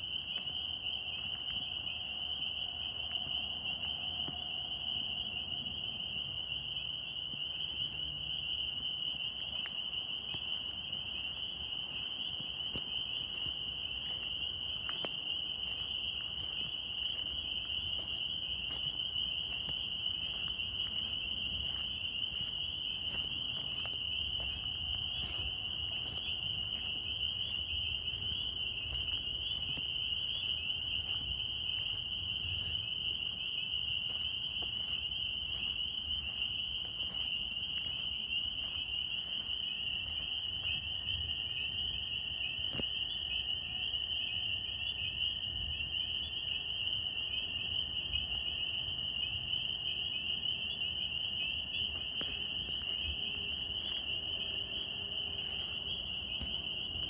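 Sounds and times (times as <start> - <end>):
chorus of peeping frogs: 0.0 - 57.0.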